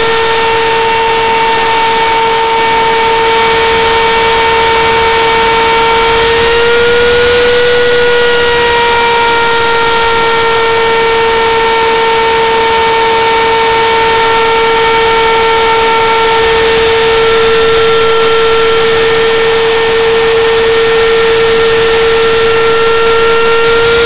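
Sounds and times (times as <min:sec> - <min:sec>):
router cutting wood hiss: 0:00.0 - 0:24.0
router spindle whining: 0:00.0 - 0:24.0.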